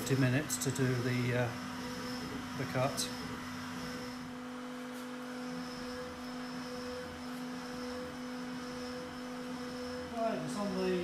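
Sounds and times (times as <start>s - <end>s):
router spindle humming: 0.0s - 11.0s.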